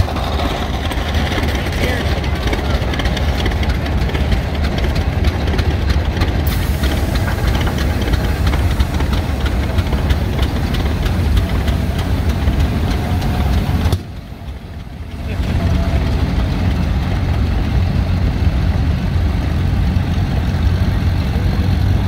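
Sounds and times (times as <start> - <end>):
tractor engine exhaust beat: 0.0 - 22.0.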